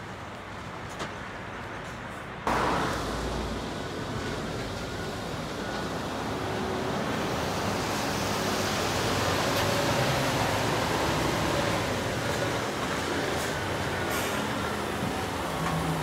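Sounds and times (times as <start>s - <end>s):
truck diesel engine: 2.5s - 16.0s.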